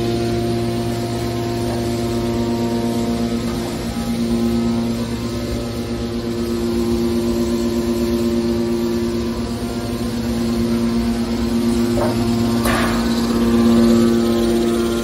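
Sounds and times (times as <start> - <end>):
hydraulic pump motor humming: 0.0 - 15.0.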